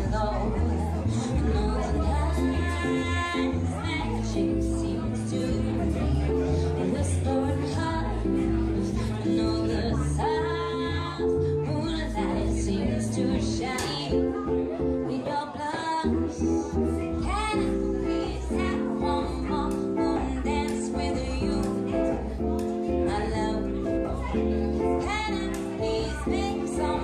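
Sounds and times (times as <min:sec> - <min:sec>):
plucked double bass: 0:00.0 - 0:27.0
woman singing into microphone: 0:00.0 - 0:27.0.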